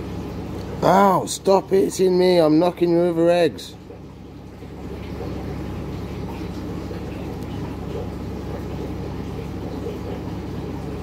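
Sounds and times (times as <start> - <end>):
muffled underwater aquarium hum: 0.0 - 11.0.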